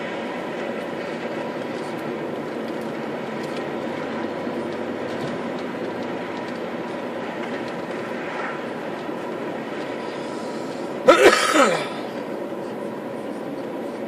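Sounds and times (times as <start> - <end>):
diesel engine cruising: 0.0 - 14.0
tyre and road rumble: 0.0 - 14.0.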